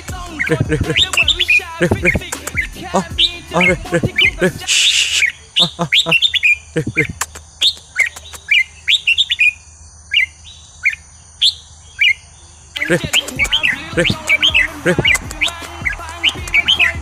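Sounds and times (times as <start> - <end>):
bird chirping whistles: 0.0 - 17.0.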